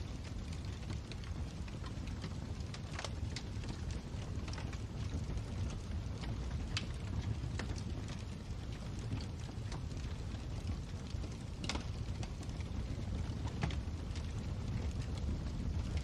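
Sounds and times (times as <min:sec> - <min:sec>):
fire burning in a fireplace: 0:00.0 - 0:16.0
fire crackles and pops: 0:00.0 - 0:16.0.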